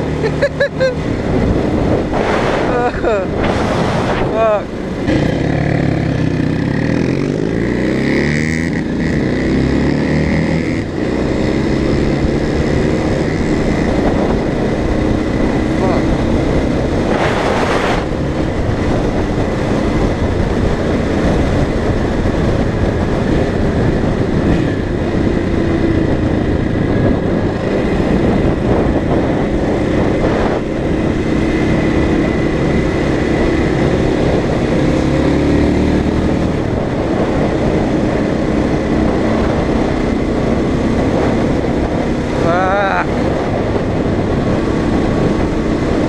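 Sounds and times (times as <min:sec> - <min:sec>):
motorcycle engine revving: 0:00.0 - 0:46.0
wind rush on microphone: 0:00.0 - 0:46.0.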